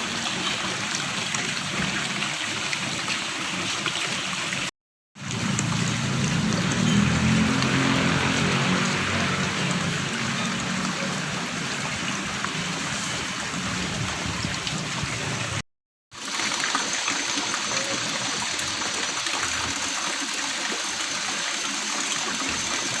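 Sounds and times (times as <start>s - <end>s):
stream gurgling: 0.0s - 15.6s, 16.2s - 23.0s.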